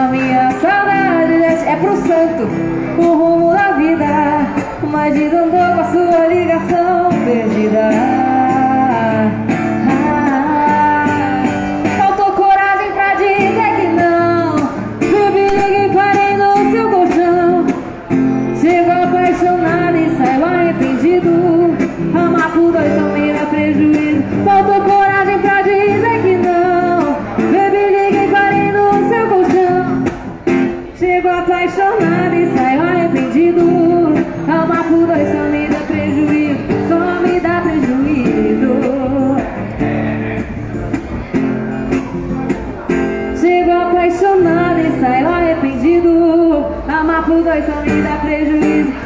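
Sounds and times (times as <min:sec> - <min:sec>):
woman singing: 0:00.0 - 0:40.1, 0:43.2 - 0:49.0
acoustic guitar: 0:00.0 - 0:49.0.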